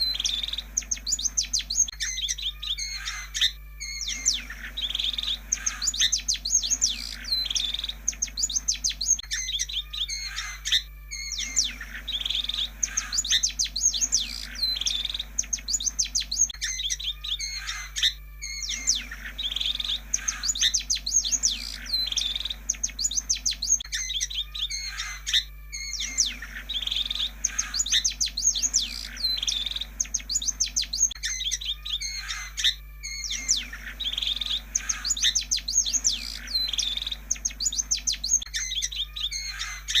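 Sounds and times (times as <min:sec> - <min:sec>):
bird chattering whistling song: 0:00.0 - 0:40.0
steady low hum: 0:00.0 - 0:40.0.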